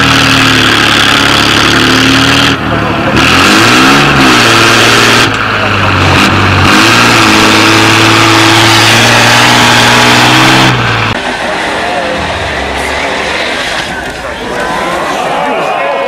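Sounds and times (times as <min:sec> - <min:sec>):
off-road engine revving hard: 0:00.0 - 0:14.1.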